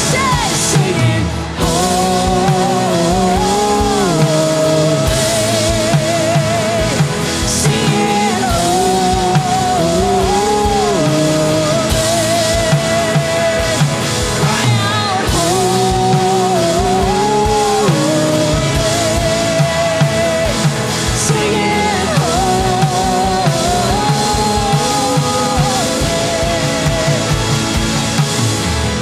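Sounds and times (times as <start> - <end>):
worship band playing: 0.0 - 29.0.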